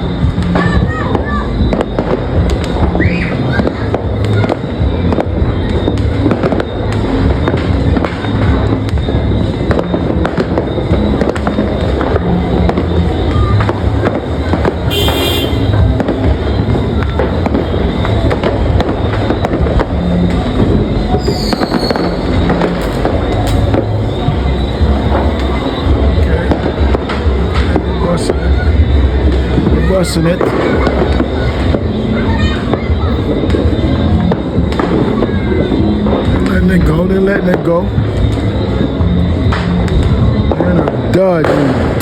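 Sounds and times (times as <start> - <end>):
firework whistle: 0.0 - 42.0
fireworks and firecrackers banging: 0.0 - 42.0.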